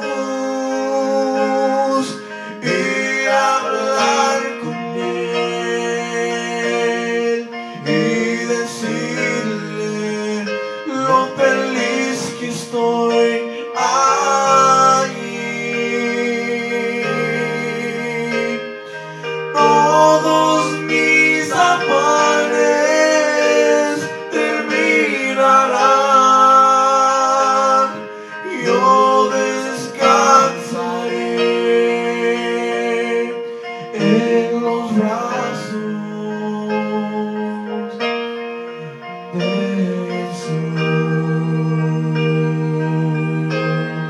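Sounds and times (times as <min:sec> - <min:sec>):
men singing into microphones: 0:00.0 - 0:38.1, 0:39.3 - 0:44.0
electric keyboard: 0:00.0 - 0:44.0.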